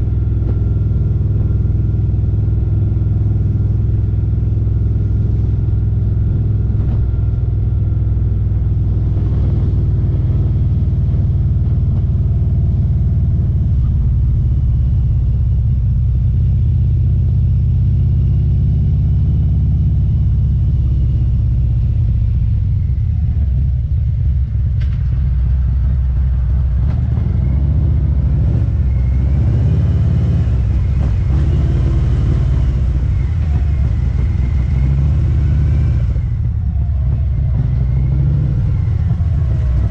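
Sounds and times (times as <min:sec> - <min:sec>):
motorcycle exhaust rumble: 0:00.0 - 0:39.9.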